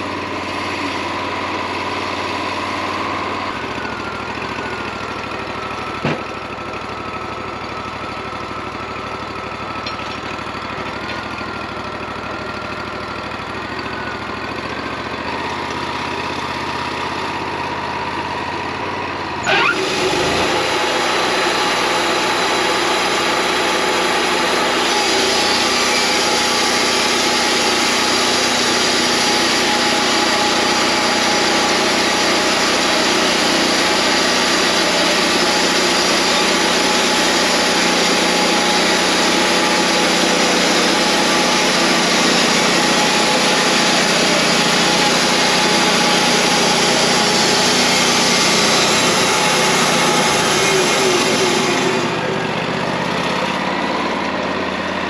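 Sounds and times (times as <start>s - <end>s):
bandsaw sawmill running: 0.0s - 55.0s.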